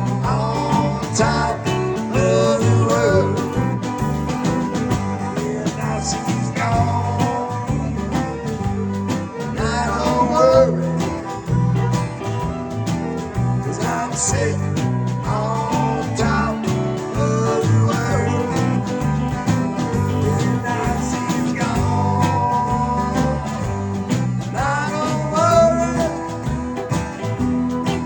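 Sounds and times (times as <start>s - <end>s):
country blues song with guitar: 0.0s - 28.0s.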